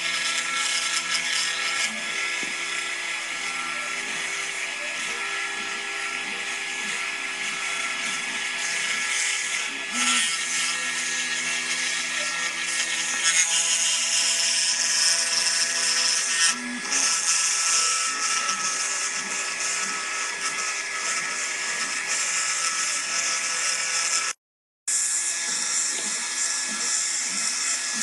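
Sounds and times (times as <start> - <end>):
spindle motor whining: 0.0 - 24.4, 25.2 - 28.0.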